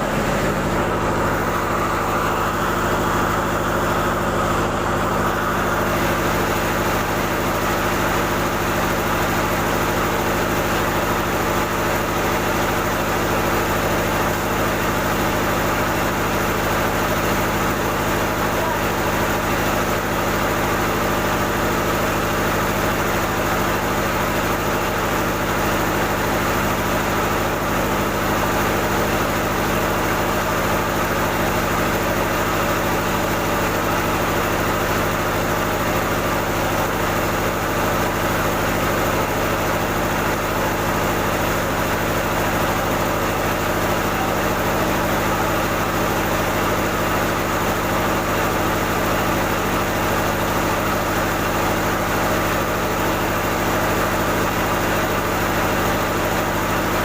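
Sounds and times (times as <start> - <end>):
mill machinery humming: 0.0 - 57.0.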